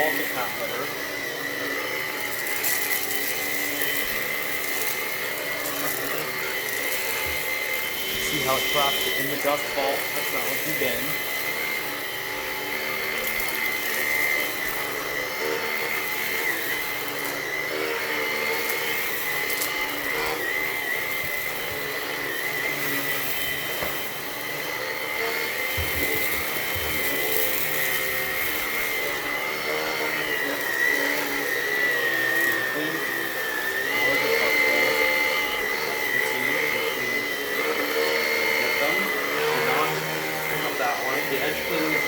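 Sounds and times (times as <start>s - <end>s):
vacuum cleaner whining on carpet: 0.0s - 42.0s.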